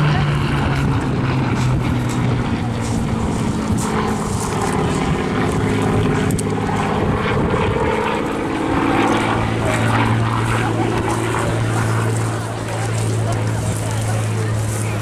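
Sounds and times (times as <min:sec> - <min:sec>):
propeller aircraft engine in flight: 0:00.0 - 0:15.0.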